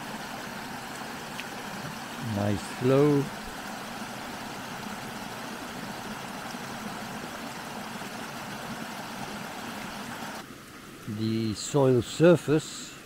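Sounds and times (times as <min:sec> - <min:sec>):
stream pouring over stones: 0:00.0 - 0:13.0.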